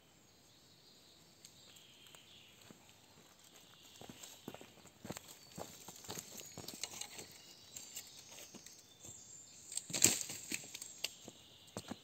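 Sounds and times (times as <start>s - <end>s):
dry leaves and twigs rustling: 1.6s - 12.0s.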